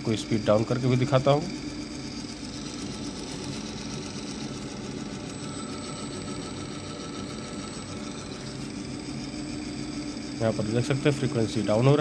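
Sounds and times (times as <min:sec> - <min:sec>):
electric motor hum: 0:00.0 - 0:12.0
faint high whine: 0:00.0 - 0:12.0.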